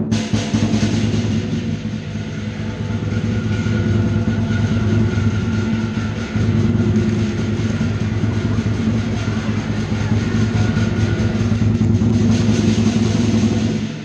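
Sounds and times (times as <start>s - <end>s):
drum and cymbals rolling fast: 0.0s - 14.0s.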